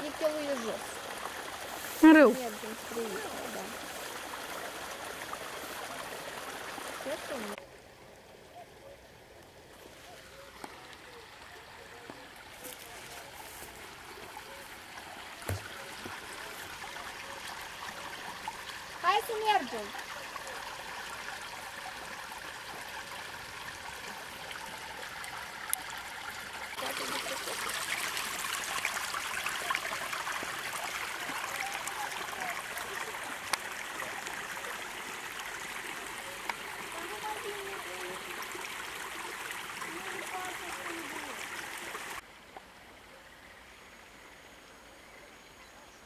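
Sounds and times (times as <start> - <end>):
wastewater running: 0.0 - 7.6, 9.8 - 42.2.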